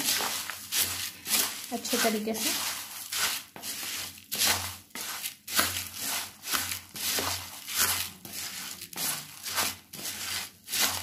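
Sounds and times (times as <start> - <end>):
puffed rice rustling in a bowl: 0.0 - 11.0.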